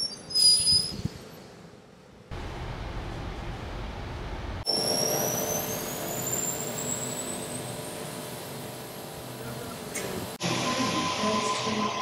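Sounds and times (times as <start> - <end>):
low train running rumble: 1.0 - 12.0.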